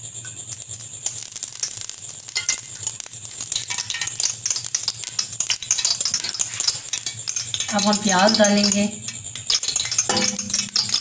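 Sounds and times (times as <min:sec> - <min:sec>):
oil sizzling in a pot: 0:00.0 - 0:11.0.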